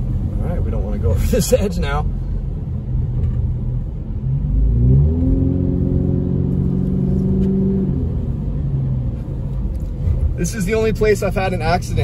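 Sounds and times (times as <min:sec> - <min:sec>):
car engine accelerating: 0:00.0 - 0:12.0
low road rumble: 0:00.0 - 0:12.0.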